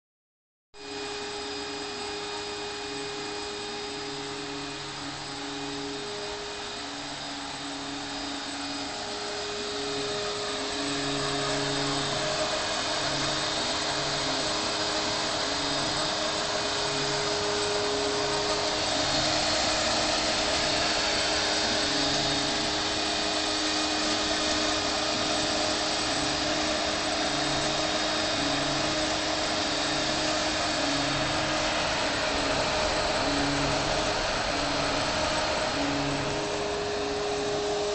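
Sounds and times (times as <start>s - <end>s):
low motor tones: 0.8s - 37.9s
spindle motor whirring: 0.9s - 37.9s.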